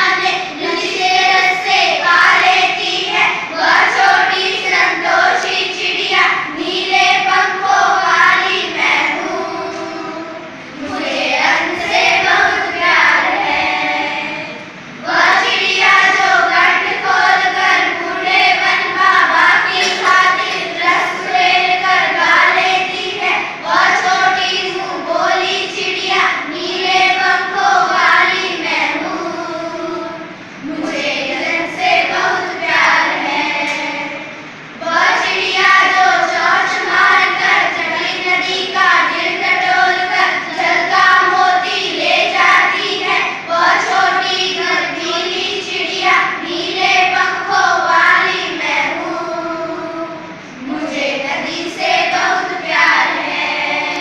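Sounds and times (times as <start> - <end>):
girls singing in unison: 0.0 - 54.0.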